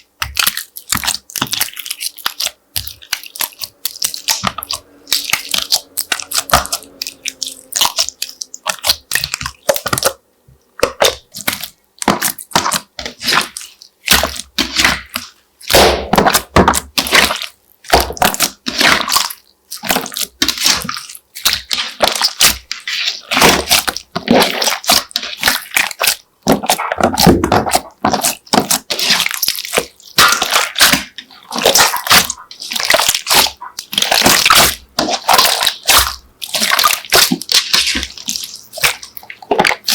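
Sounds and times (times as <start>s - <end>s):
slime squished by hand: 0.0s - 10.2s, 10.8s - 39.9s.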